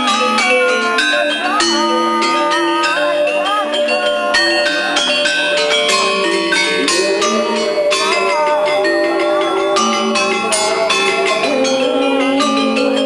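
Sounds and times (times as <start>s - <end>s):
gamelan metallophones ringing: 0.0s - 13.0s
wavering melody line: 0.0s - 13.0s.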